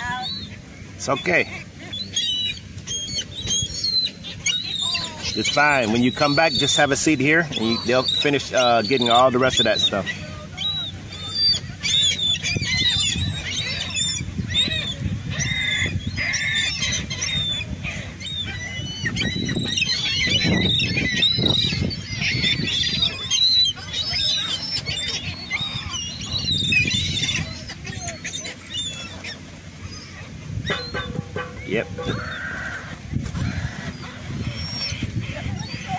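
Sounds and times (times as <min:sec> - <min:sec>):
seagulls calling: 0:00.0 - 0:35.9.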